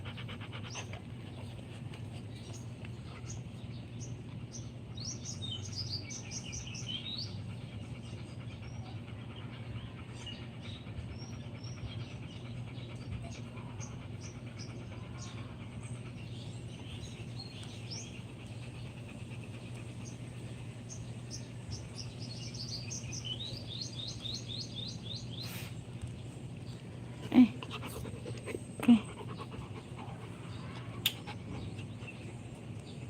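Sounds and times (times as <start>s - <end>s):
low steady hum: 0.0s - 33.0s
small birds chirping: 0.0s - 33.0s.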